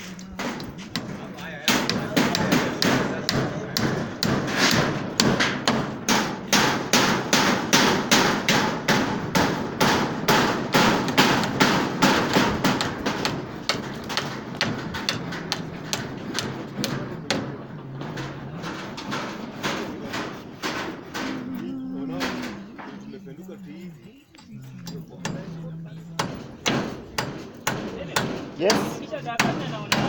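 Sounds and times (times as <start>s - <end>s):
hammer blows: 0.0s - 23.0s, 24.5s - 30.0s.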